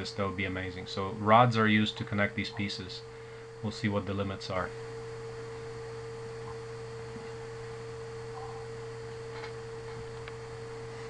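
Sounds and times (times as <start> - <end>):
electrical hum: 0.0 - 11.0
low buzz: 0.0 - 11.0.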